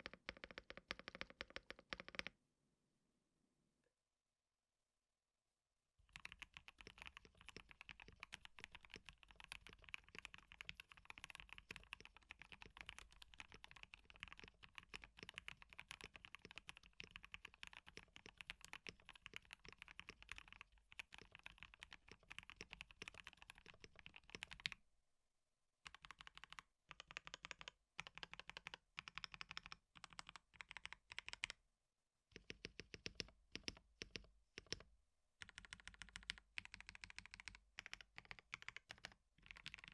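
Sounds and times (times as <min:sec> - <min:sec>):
typing on mechanical keyboard: 0:00.0 - 0:02.3, 0:06.1 - 0:24.8, 0:25.8 - 0:31.6, 0:32.4 - 0:39.9.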